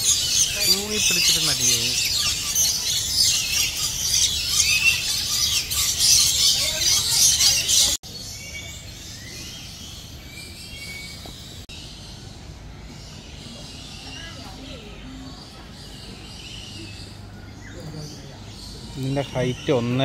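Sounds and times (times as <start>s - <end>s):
bird calls: 0.0s - 20.0s
flock of birds chirping and squawking: 0.0s - 20.0s.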